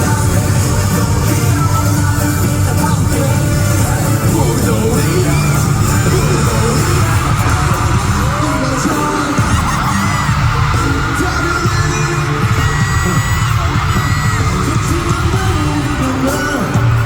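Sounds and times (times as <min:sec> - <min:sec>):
crowd yelling and cheering: 0:00.0 - 0:17.0
loud pop concert music: 0:00.0 - 0:17.0
person singing: 0:00.0 - 0:17.0.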